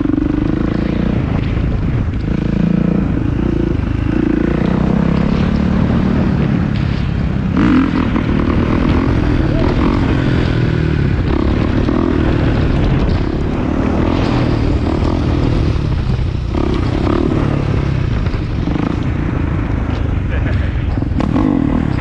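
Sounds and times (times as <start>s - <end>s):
motorcycle engine running loudly: 0.0s - 22.0s.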